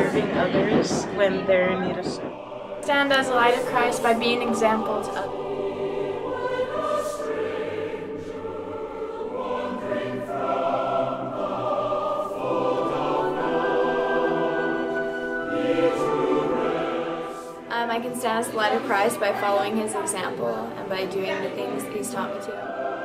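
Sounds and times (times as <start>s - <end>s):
choir singing long held notes: 0.0s - 23.0s.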